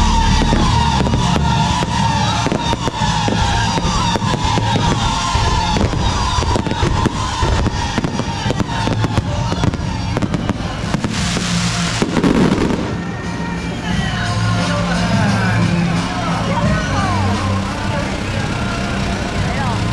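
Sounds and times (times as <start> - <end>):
background music: 0.0 - 19.9
fireworks crackling and banging: 0.0 - 19.9.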